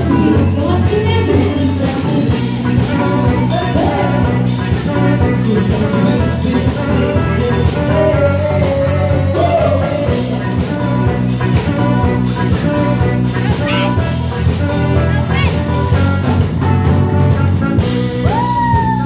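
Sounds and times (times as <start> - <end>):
live band playing dance-pop: 0.0 - 19.0.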